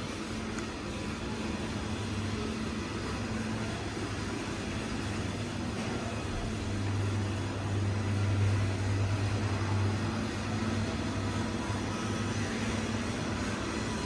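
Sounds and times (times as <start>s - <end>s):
diffuse background noise: 0.0s - 14.0s
low machine hum: 0.0s - 14.0s.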